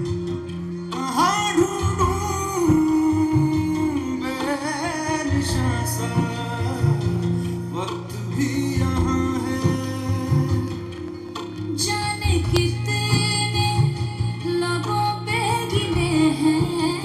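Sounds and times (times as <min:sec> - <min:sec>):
guitar: 0:00.0 - 0:17.0
steady bass line: 0:00.0 - 0:17.0
person singing: 0:00.8 - 0:17.0.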